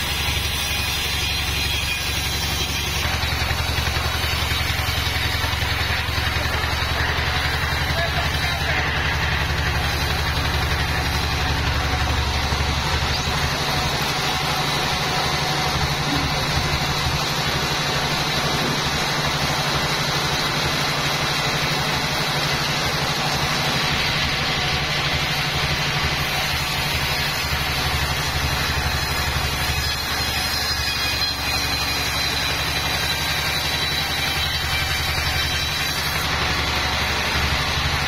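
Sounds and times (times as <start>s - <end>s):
sawmill mechanical drone: 0.0s - 38.0s.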